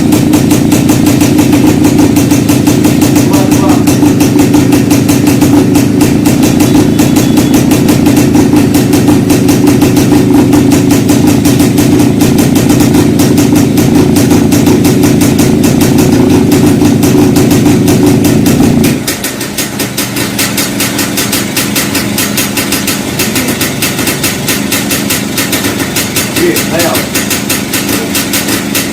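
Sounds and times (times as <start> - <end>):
two-stroke motorcycle engine running: 0.0 - 28.9.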